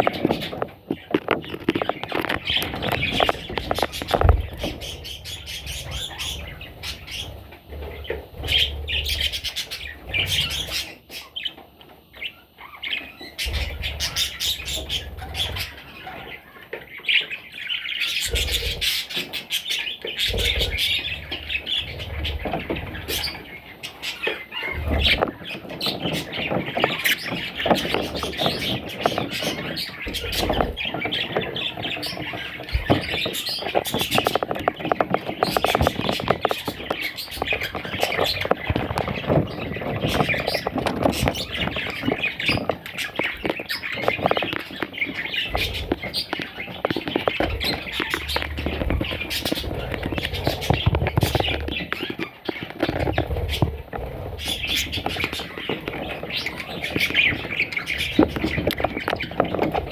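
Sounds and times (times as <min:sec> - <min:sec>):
budgerigars squawking and chattering: 0:00.0 - 0:59.9.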